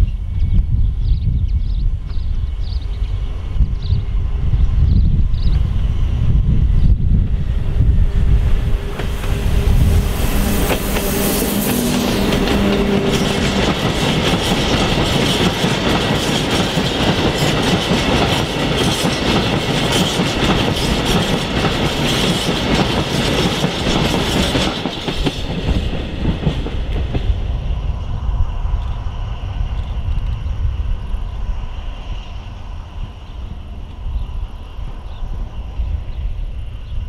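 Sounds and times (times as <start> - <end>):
low train rumble: 0.0 - 37.0.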